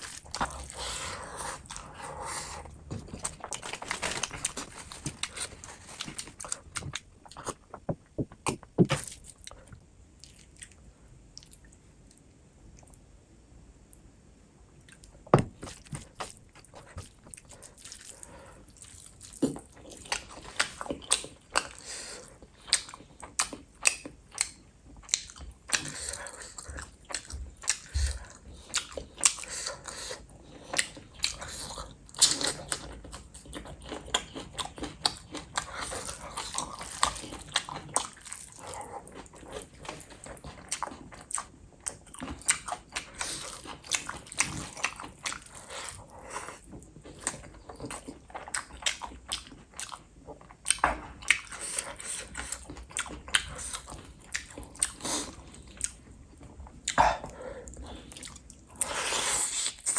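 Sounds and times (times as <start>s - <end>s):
person chewing food: 0.0s - 13.0s, 14.8s - 59.9s.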